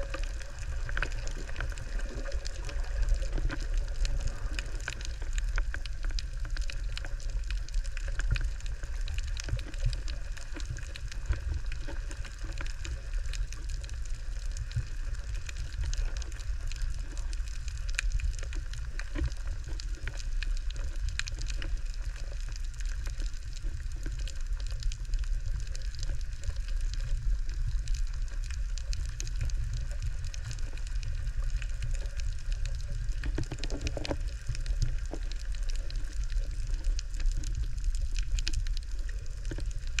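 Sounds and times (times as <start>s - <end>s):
fine crackling clicks: 0.0s - 40.0s
underwater rumble: 0.0s - 40.0s.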